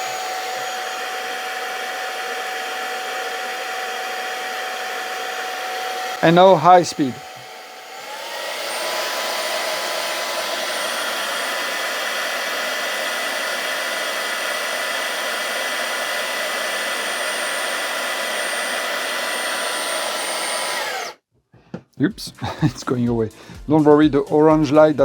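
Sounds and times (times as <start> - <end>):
handheld vacuum running: 0.0 - 21.2.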